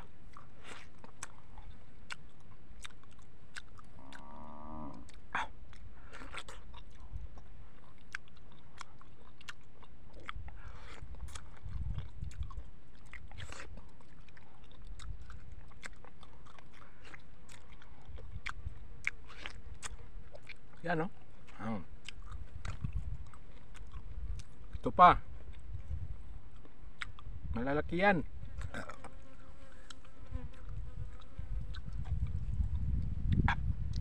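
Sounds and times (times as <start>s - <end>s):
wet mango eating and chewing: 0.0s - 27.6s, 28.2s - 34.0s.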